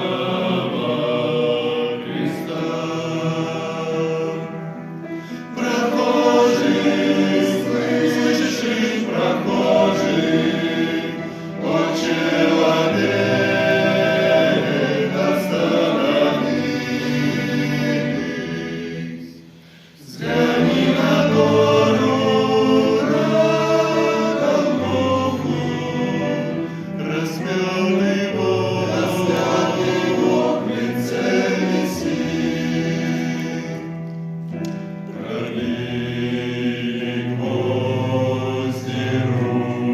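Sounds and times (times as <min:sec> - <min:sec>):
men singing a hymn in harmony: 0:00.0 - 0:39.9.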